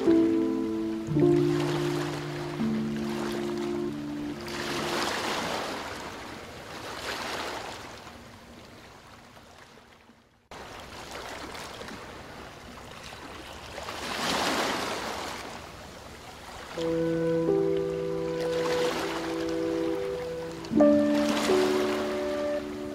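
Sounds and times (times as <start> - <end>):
rushing noise like waves: 0.0 - 8.5, 10.5 - 22.9.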